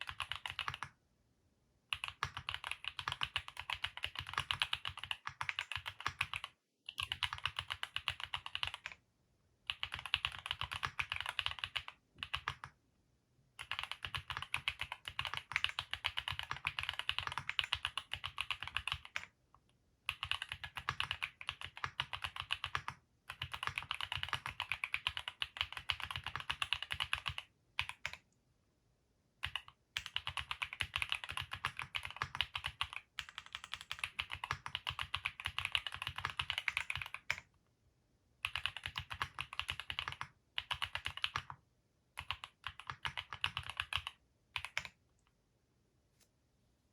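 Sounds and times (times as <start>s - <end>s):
typing on mechanical keyboard: 0.0s - 1.0s, 1.9s - 9.0s, 9.7s - 12.8s, 13.6s - 19.4s, 20.1s - 28.2s, 29.4s - 37.5s, 38.4s - 41.6s, 42.2s - 45.0s.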